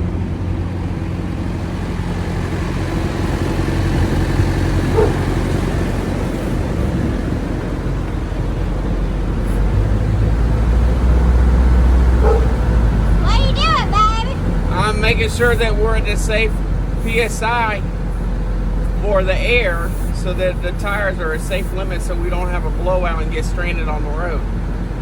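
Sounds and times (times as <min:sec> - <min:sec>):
motor humming: 0:00.0 - 0:25.0.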